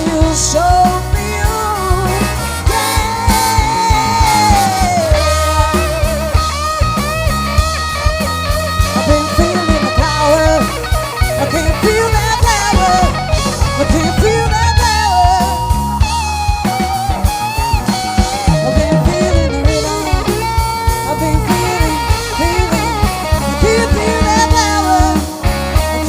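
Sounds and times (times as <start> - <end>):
bass guitar: 0.0 - 26.0
steady drum beat: 0.0 - 26.0
wavering electric guitar lead: 0.0 - 26.0.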